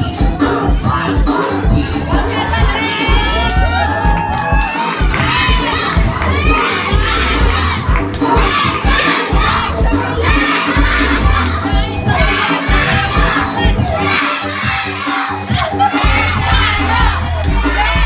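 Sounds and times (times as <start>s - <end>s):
loud dance music: 0.0s - 18.0s
children shouting and cheering: 2.1s - 18.0s.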